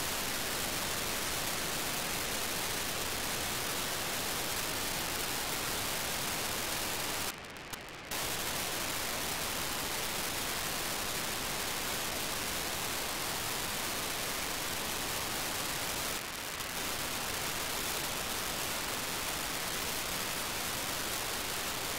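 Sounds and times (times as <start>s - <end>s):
radio receiver hiss: 0.0s - 21.9s.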